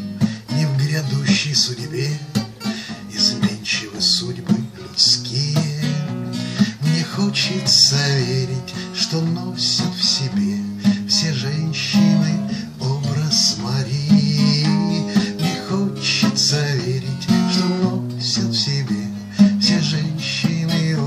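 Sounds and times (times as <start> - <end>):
man singing: 0.0 - 21.0
strummed acoustic guitar: 0.0 - 21.0.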